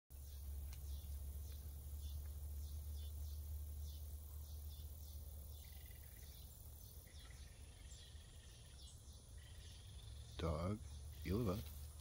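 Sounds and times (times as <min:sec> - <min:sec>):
bird chirps: 0:00.1 - 0:12.0
steady low hum: 0:00.1 - 0:12.0
insect chirps: 0:00.2 - 0:12.0.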